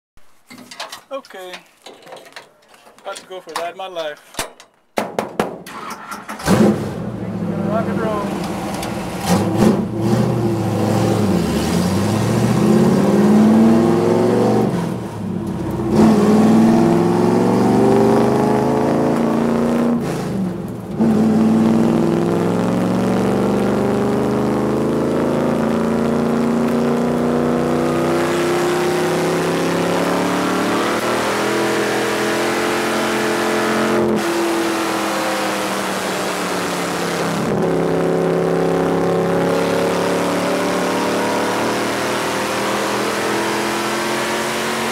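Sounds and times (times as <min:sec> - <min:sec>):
car engine accelerating hard: 0:05.8 - 0:44.9.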